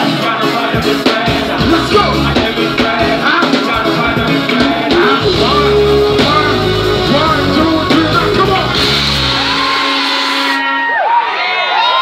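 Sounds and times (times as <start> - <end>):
live hip-hop band with heavy bass: 0.0 - 11.3.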